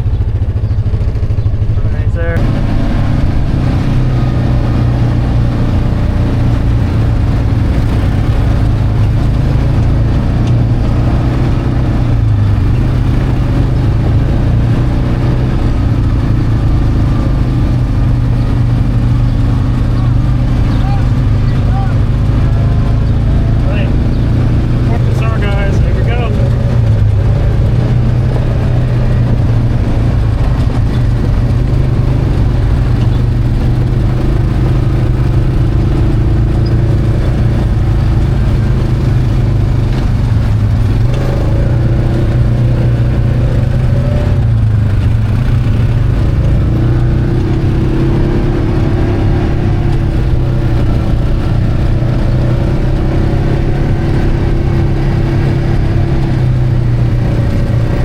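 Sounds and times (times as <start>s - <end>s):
utility vehicle engine running: 0.0s - 58.0s.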